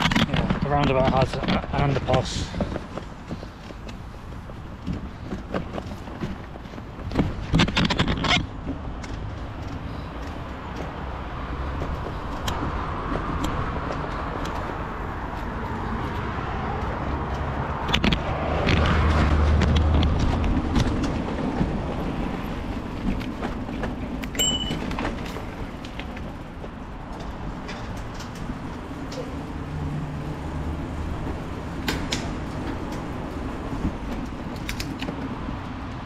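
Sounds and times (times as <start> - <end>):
sharp clicks and knocks: 0.0 - 4.0, 4.8 - 11.0, 11.7 - 14.8, 16.8 - 21.9, 23.0 - 35.8
road traffic passing: 0.0 - 36.0.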